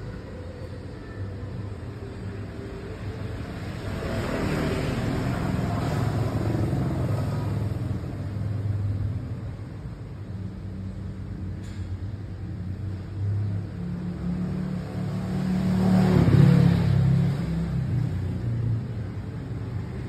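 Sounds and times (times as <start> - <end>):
vehicle engine hum passing: 0.0 - 20.0.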